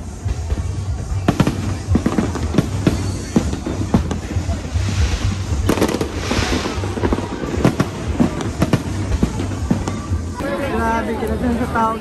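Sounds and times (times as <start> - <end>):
fireworks bangs: 0.0 - 11.0
crackling hiss: 0.0 - 12.0.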